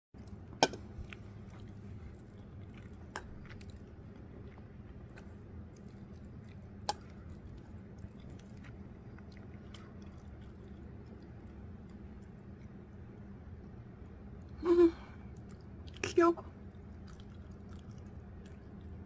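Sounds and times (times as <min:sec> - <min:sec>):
soft chewing: 0:00.2 - 0:19.0
steady low hum: 0:00.2 - 0:19.0.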